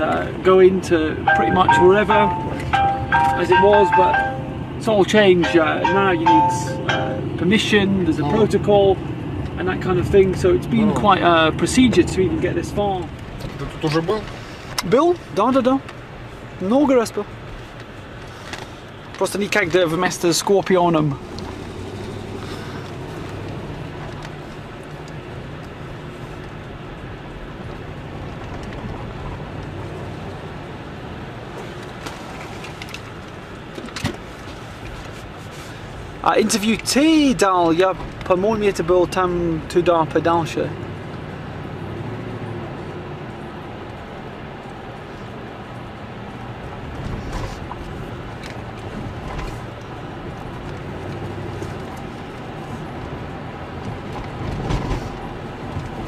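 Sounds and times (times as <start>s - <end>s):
road noise: 0.0s - 56.0s
vehicle engine hum: 0.0s - 56.0s.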